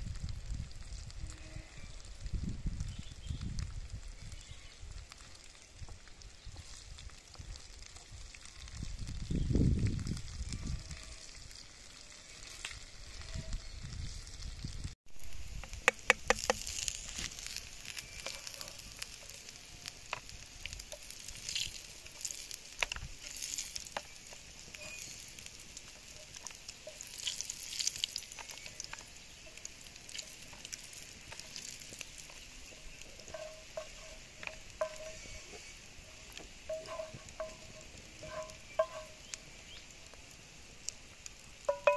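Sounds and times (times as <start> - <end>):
fish sizzling in oil: 0.0 - 41.9
wooden spatula turning fish: 2.8 - 9.3, 10.1 - 41.9.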